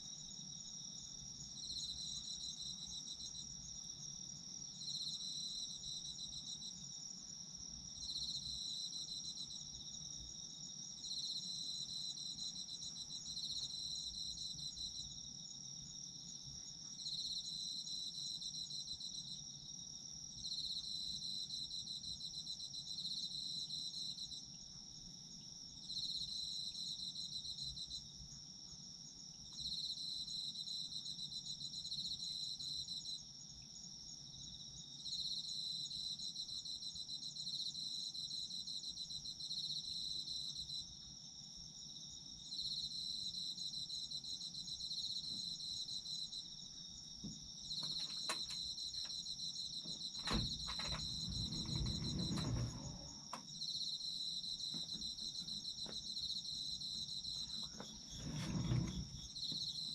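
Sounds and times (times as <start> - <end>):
cricket continuous high trill: 0.0 - 59.9.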